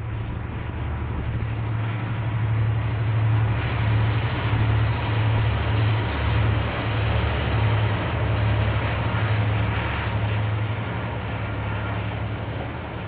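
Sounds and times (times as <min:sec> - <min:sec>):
diesel locomotive engines droning: 0:00.0 - 0:13.0
train wheels rumbling on rails: 0:00.0 - 0:13.0.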